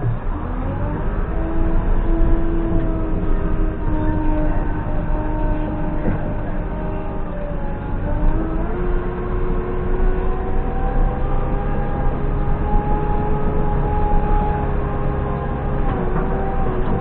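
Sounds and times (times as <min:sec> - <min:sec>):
diesel engine revving under load: 0:00.0 - 0:17.0.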